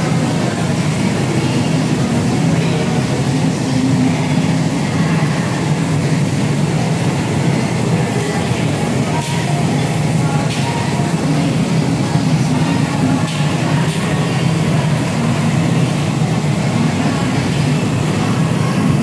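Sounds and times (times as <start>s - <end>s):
extraction fan drone: 0.0s - 19.0s.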